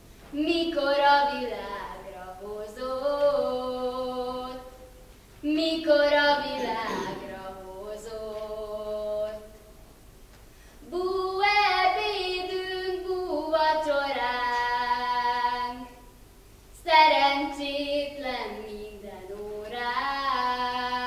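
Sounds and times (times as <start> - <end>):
girl singing unaccompanied: 0.3 - 9.7, 10.8 - 16.1, 16.8 - 21.0.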